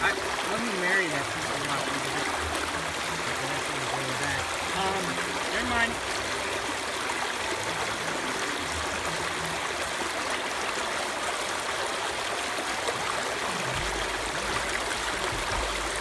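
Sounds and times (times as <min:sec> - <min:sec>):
creek water splashing over rocks: 0:00.0 - 0:16.0.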